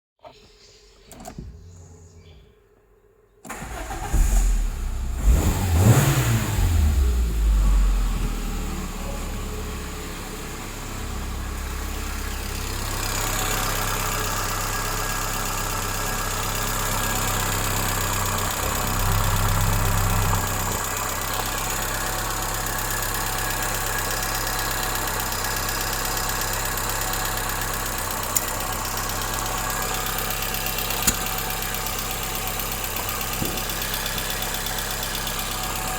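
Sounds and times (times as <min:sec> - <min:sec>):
car engine starting and idling: 0:03.4 - 0:35.9.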